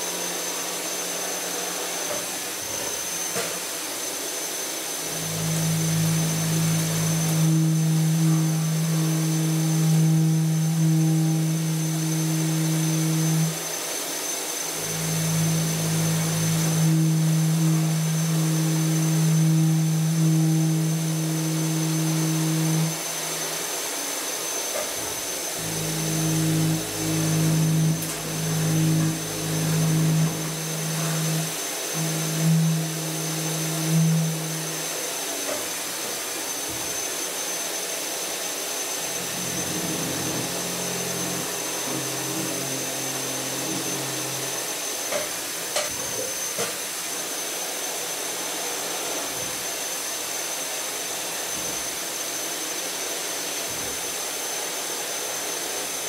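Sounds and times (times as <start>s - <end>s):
milling machine cutting steel: 0.0s - 52.3s.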